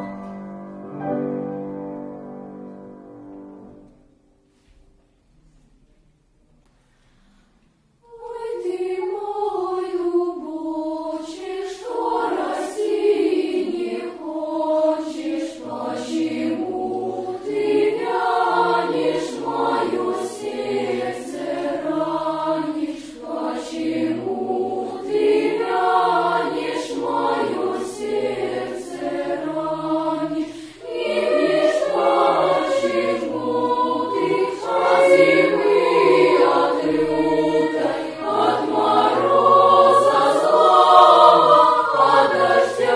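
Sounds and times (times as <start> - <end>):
children's choir singing: 0.0 - 4.2, 7.8 - 42.9.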